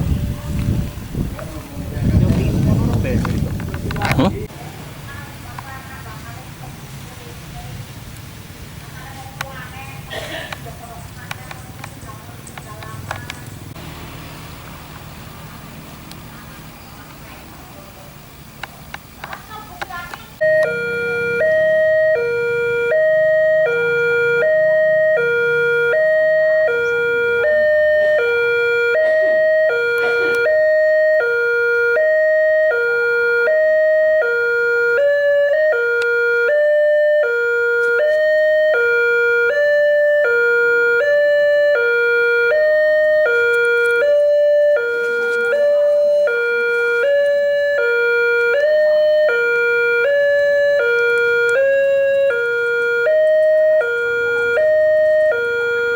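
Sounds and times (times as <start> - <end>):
two-tone warning siren: 0.0 - 4.3, 7.4 - 16.8, 20.3 - 55.9.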